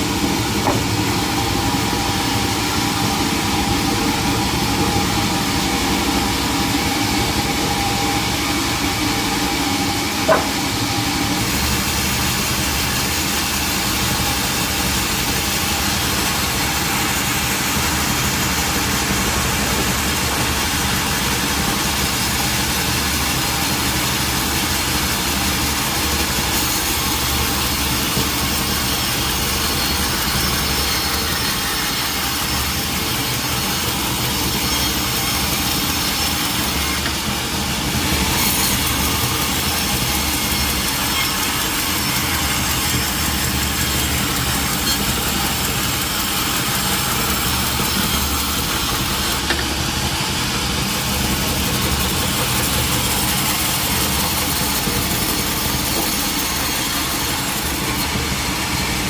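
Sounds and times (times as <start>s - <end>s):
saw cutting through wood: 0.0s - 59.0s
sawmill machinery running: 0.0s - 59.0s.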